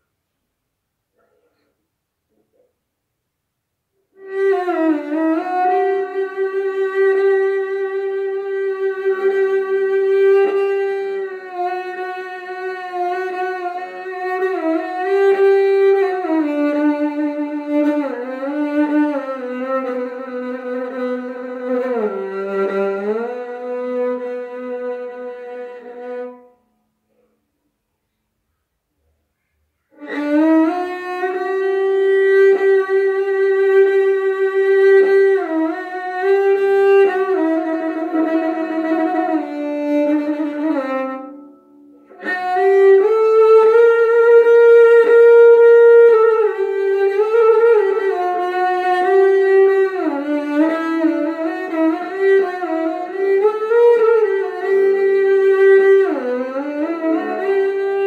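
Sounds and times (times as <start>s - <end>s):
bowed string instrument melody: 4.1s - 27.3s, 29.9s - 58.0s.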